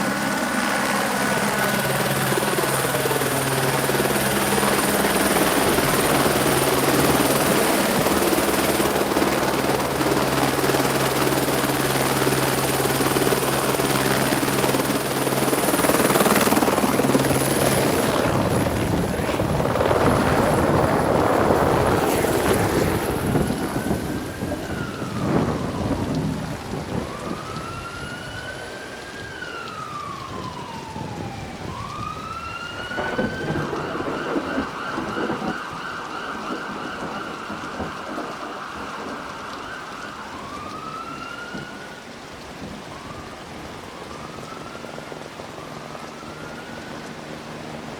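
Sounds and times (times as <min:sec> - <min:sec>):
helicopter engine and rotor: 0:00.0 - 0:40.5, 0:44.9 - 0:47.9
emergency siren wailing: 0:00.0 - 0:47.9
rain hiss: 0:00.0 - 0:47.9
thunder rumbling with sharp cracks: 0:01.0 - 0:44.8.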